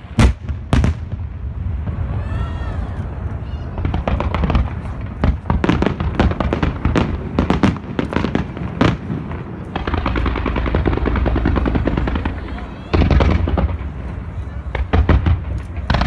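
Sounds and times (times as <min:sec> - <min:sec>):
fireworks bangs and pops: 0:00.0 - 0:02.2, 0:03.7 - 0:16.0
fireworks crackling: 0:00.0 - 0:16.0.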